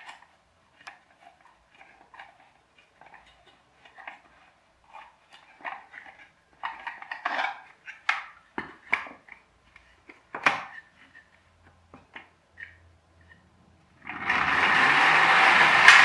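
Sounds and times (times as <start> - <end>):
plastic toy truck clicking and clattering: 0.0 - 13.4, 14.2 - 16.0.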